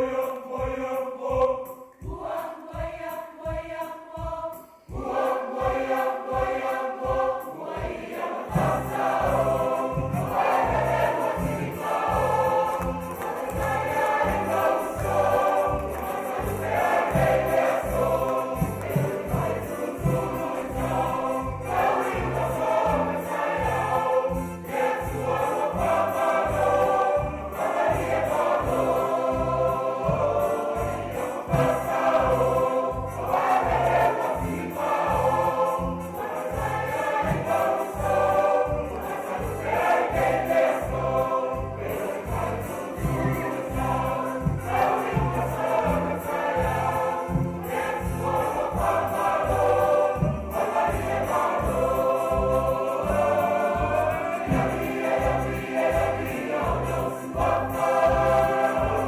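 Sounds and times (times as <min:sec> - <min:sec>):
choir singing: 0:00.0 - 0:59.0
steady beat: 0:00.4 - 0:59.0.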